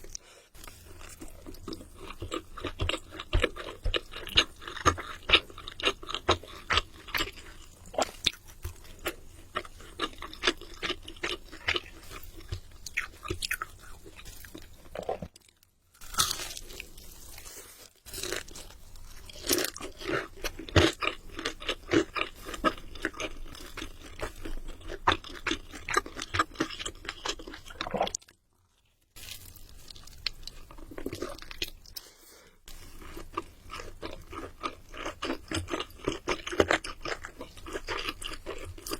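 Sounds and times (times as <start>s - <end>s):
chewing: 0.0s - 28.4s, 32.7s - 38.9s
crunching fried chicken: 0.6s - 31.8s, 32.7s - 38.9s.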